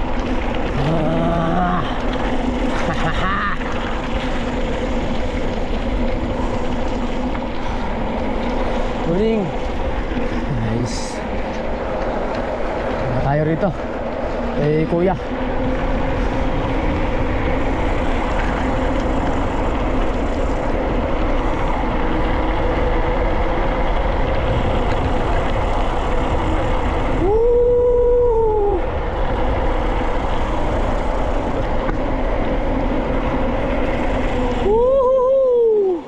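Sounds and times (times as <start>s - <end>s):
mountain bike running noise: 0.0s - 36.0s
wind on microphone: 0.0s - 36.0s.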